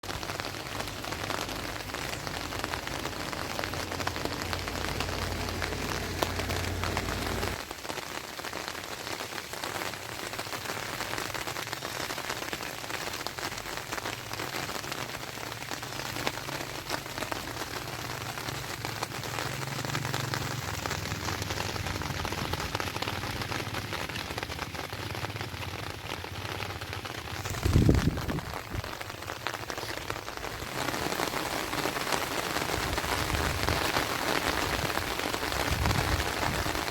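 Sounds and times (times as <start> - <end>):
rain falling: 0.0 - 36.9.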